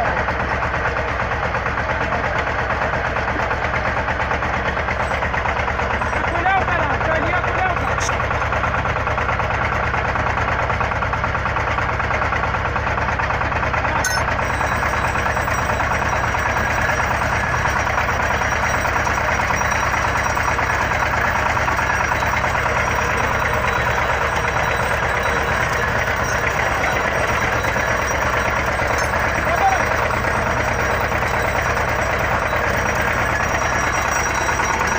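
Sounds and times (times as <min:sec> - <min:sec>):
drilling rig engine running: 0:00.0 - 0:34.9.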